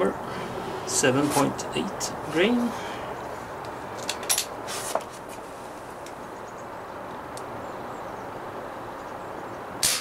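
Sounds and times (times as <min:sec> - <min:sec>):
outdoor background rush: 0:00.0 - 0:10.0.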